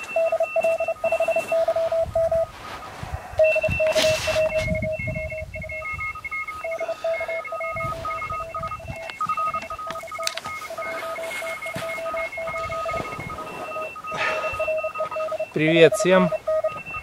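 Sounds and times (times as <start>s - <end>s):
morse code signals through radio: 0.0s - 2.6s, 3.3s - 17.0s.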